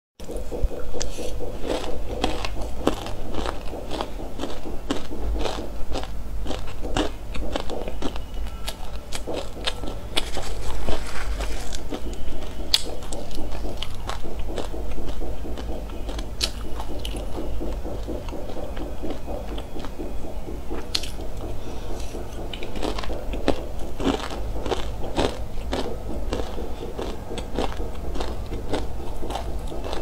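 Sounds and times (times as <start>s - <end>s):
chewing crunchy seeds: 0.3s - 30.0s.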